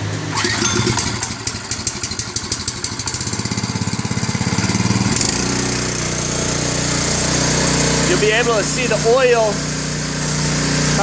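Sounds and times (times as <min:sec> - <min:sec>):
electric pump pulsing rattle: 0:00.3 - 0:11.0.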